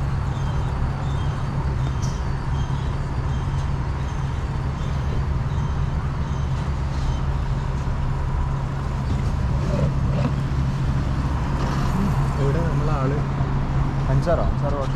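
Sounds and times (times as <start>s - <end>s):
car engine and road rumble: 0.0s - 14.9s.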